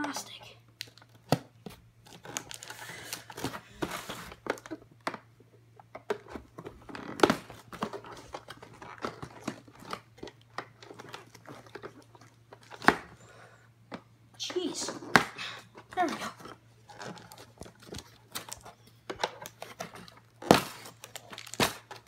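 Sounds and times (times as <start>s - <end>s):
cardboard and packaging rustling: 0.0s - 5.2s, 5.8s - 13.4s, 14.9s - 22.0s.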